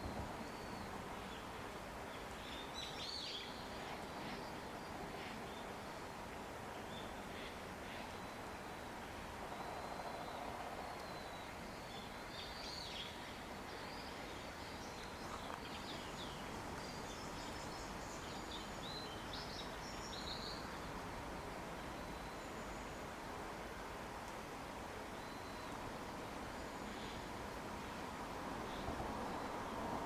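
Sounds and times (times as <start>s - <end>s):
faint outdoor rush: 0.0s - 30.0s.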